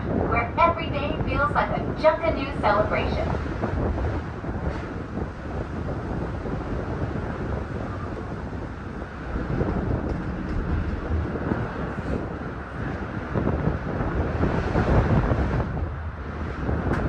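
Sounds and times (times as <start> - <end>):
gondola cabin moving on cable: 0.0 - 17.0
wind buffeting microphone: 0.0 - 17.0.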